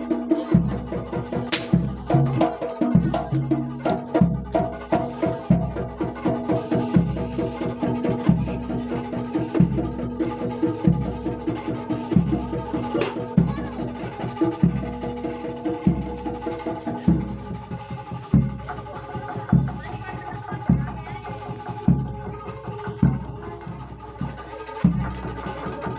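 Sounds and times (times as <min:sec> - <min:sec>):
bass drum beat: 0:00.0 - 0:25.9
hand drum strokes: 0:00.0 - 0:25.9
held melodic notes: 0:01.8 - 0:25.9.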